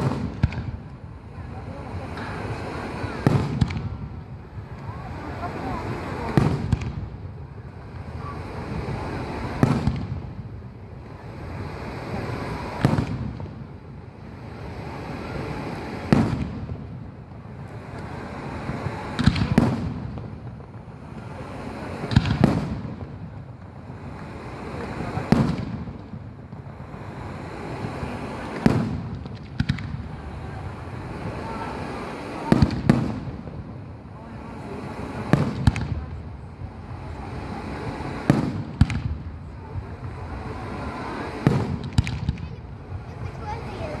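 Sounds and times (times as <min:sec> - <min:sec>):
firework shells booming: 0:00.0 - 0:00.9, 0:02.0 - 0:10.6, 0:12.4 - 0:13.8, 0:15.7 - 0:42.6.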